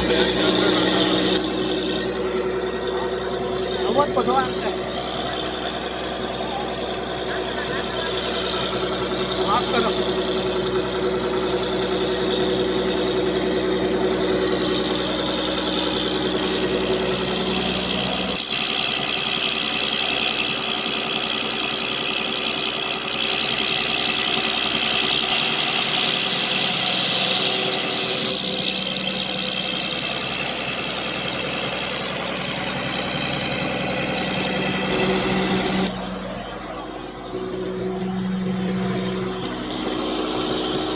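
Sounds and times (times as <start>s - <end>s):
diesel generator engine running: 0.0s - 40.9s.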